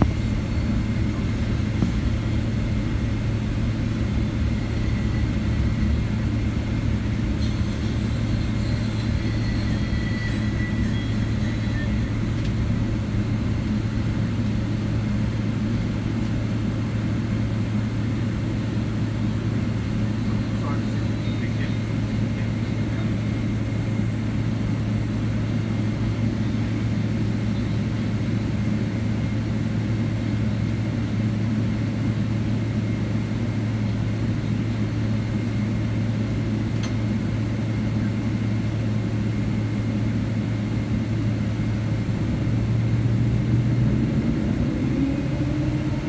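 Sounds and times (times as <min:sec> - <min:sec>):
jet engines idling hum: 0:00.0 - 0:46.0.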